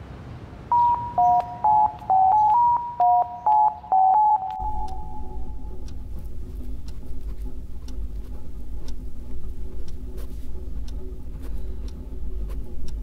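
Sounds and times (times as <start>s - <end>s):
low steady hum: 0.0s - 13.0s
clock ticking: 0.7s - 13.0s.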